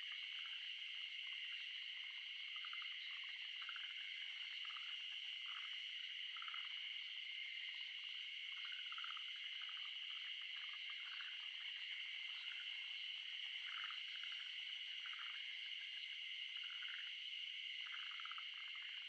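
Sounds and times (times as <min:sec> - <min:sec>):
frogs calling in rattling trills: 0:00.0 - 0:19.0
high-pitched wetland chorus: 0:00.0 - 0:19.0.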